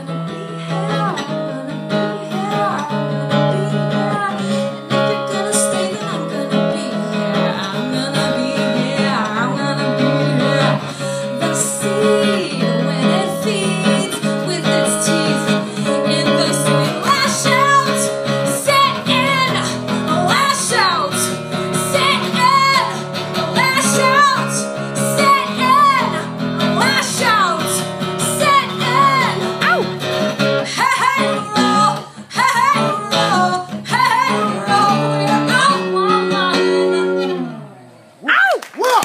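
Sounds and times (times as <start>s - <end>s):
woman singing: 0.0s - 37.7s
acoustic guitar strumming: 0.0s - 37.9s.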